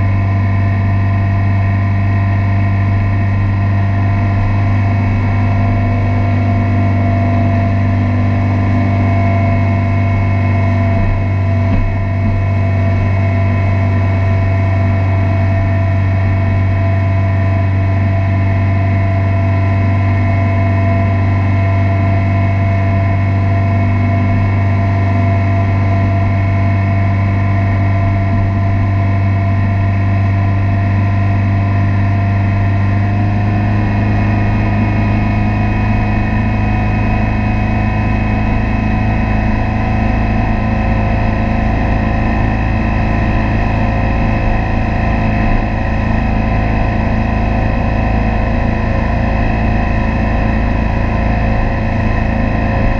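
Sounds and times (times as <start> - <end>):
motorboat engine droning: 0.0 - 52.9.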